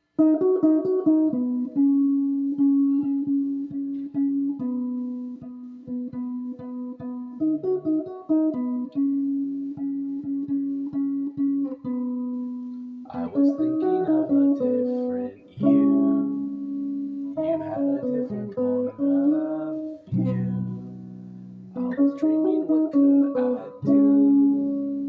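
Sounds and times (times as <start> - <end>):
plucked guitar over chords: 0.0 - 25.0.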